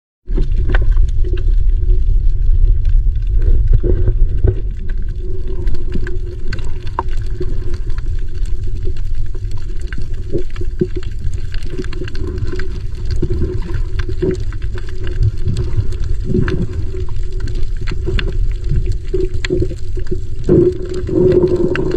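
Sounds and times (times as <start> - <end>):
underwater low rumble: 0.2 - 21.9.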